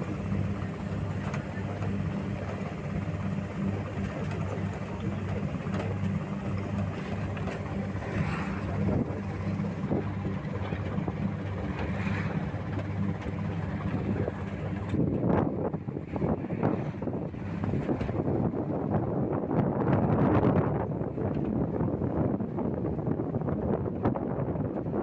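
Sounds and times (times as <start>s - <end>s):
low motor hum: 0.0s - 25.0s.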